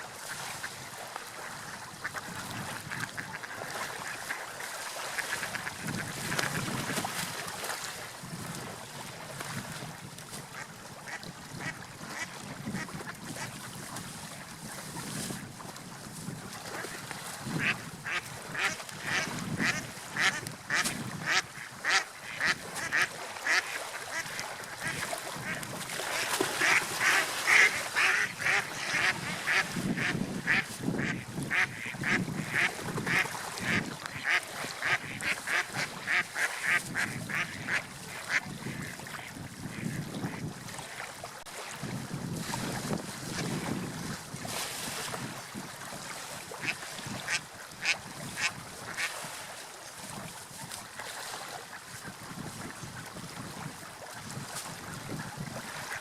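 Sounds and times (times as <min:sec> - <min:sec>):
sea surf: 0:00.0 - 0:52.7.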